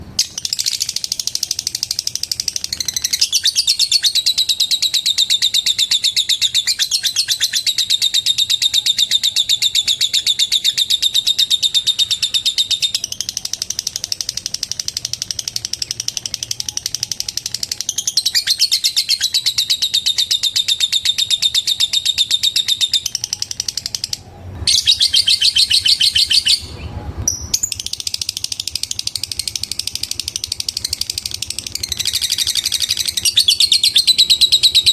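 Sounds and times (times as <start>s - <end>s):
lovebird chattering call: 0.2s - 34.9s.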